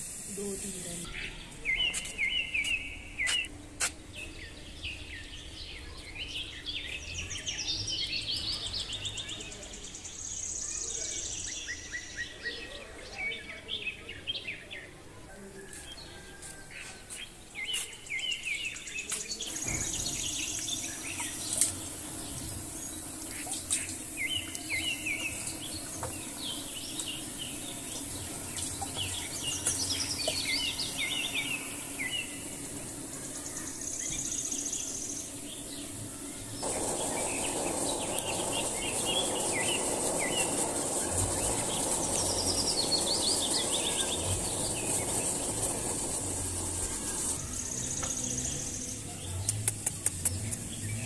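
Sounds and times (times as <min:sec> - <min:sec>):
even hiss: 0:00.0 - 0:13.8, 0:16.7 - 0:51.0
small birds chirping and singing: 0:00.0 - 0:51.0.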